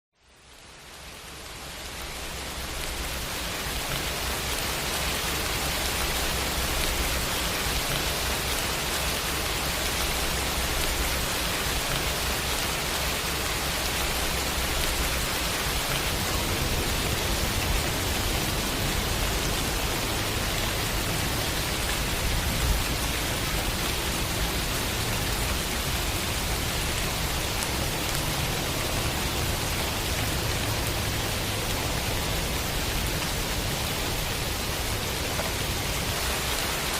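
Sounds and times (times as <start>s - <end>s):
dense rain pattering: 0.2s - 36.9s.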